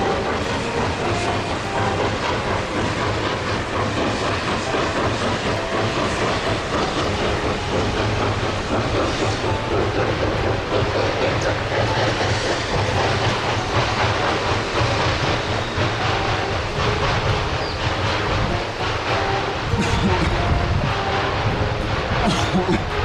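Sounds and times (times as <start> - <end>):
train wheels clattering on track: 0.0 - 23.0.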